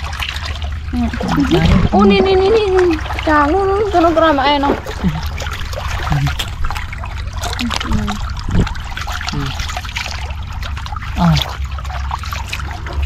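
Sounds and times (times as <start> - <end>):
water trickling over rocks: 0.0 - 13.0.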